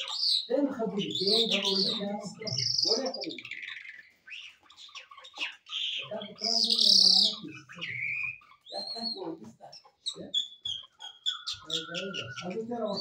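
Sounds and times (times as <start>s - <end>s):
lark singing: 0.0s - 13.0s.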